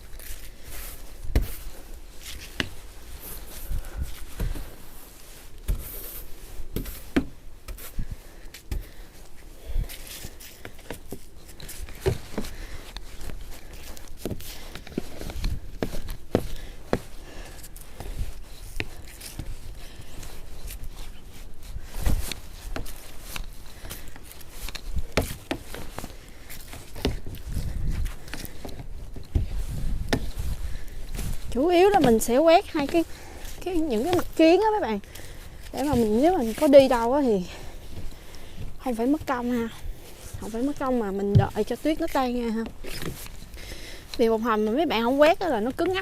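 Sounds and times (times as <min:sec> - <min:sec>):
footsteps in snow: 0:00.0 - 0:46.0
snow brush sweeping snow: 0:00.2 - 0:27.0, 0:29.5 - 0:44.5.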